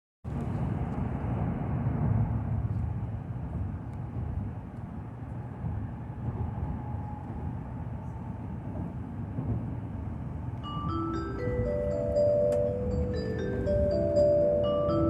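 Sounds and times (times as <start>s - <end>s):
train running rumble: 0.3s - 15.0s.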